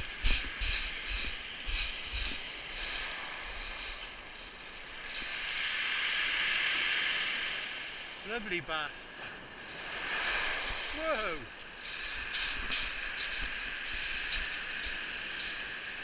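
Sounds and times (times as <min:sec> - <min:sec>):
wave washing up pebbles: 0:00.0 - 0:16.0.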